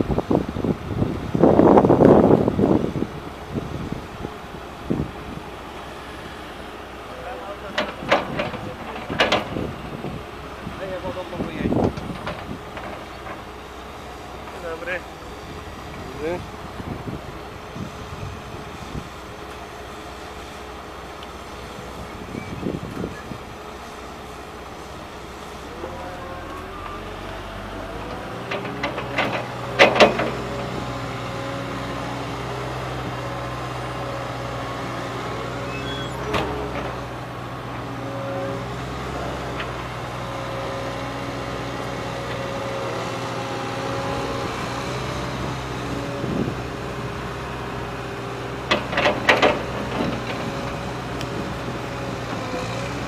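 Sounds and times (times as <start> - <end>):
diesel engines running: 0.0 - 53.0
excavator hydraulics whining: 2.6 - 53.0.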